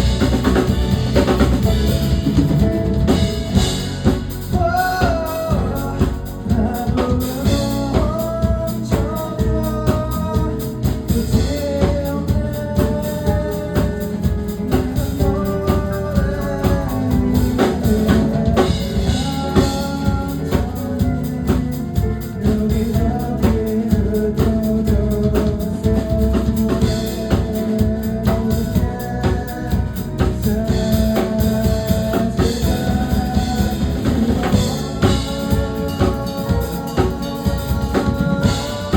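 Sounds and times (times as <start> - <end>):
bass: 0.0 - 38.9
drum kit: 0.0 - 38.9
melodic lead line: 0.0 - 38.9.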